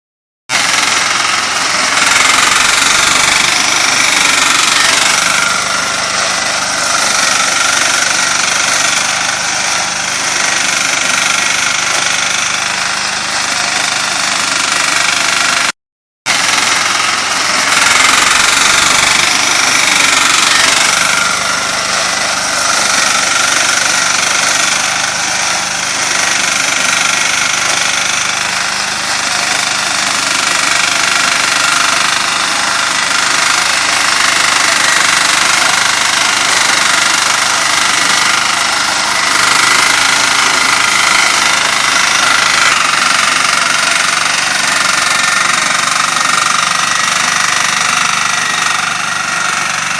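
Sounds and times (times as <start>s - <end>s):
harvesting machine engine running: 0.5s - 15.7s, 16.3s - 49.9s.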